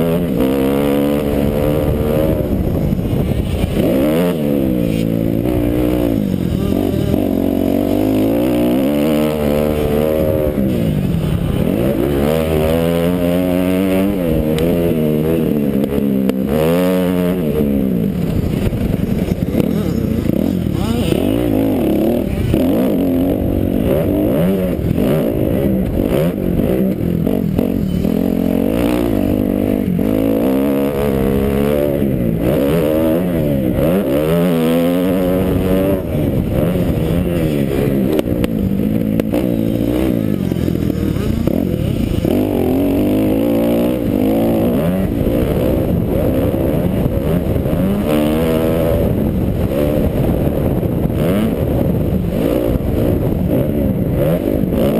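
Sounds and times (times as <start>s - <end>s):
motocross engine revving: 0.0s - 54.9s.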